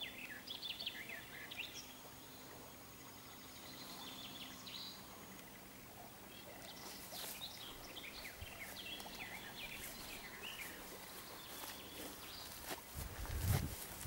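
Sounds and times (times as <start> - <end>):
songbirds chirping and singing: 0.0 - 13.4.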